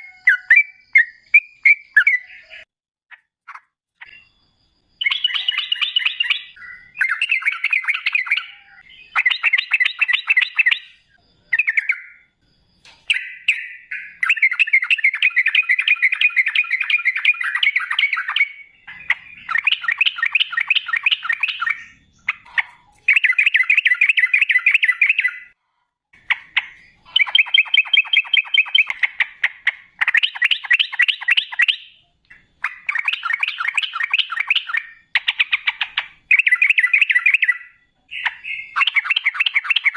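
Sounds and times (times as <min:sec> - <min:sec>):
bird chattering song: 0:00.0 - 0:25.6, 0:26.2 - 0:39.9.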